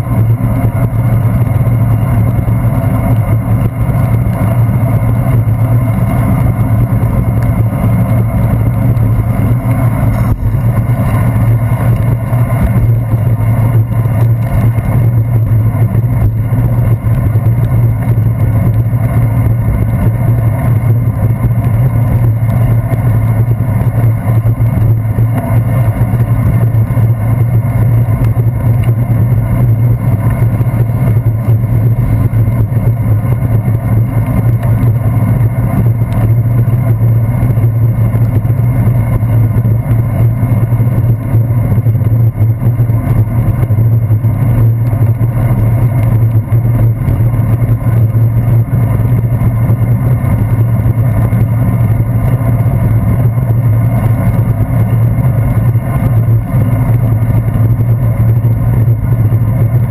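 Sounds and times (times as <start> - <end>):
bicycle road vibration on wet pavement: 0.0 - 59.9
low hum: 0.0 - 59.9
wind rumble: 0.0 - 59.9.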